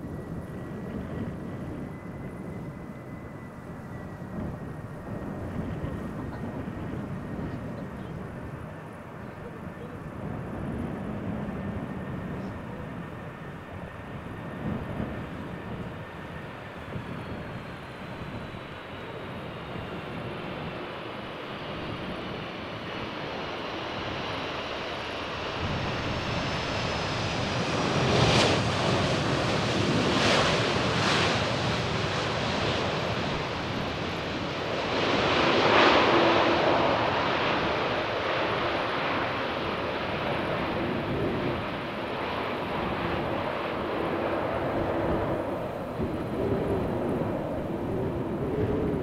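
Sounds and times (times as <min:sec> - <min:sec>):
jet engine whine: 0:00.0 - 0:49.0
rushing jet engine noise: 0:00.0 - 0:49.0.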